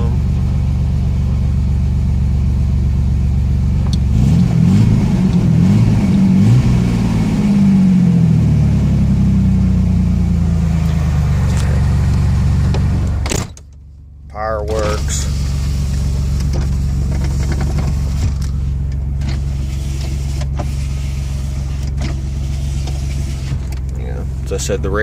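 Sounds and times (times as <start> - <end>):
pickup engine idling and revving: 0.0 - 25.0.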